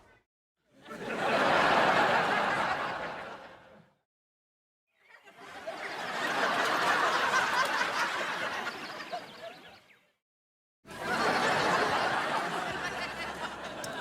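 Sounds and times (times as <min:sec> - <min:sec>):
crowd laughing: 0:00.7 - 0:04.0, 0:05.0 - 0:09.9, 0:10.9 - 0:14.0.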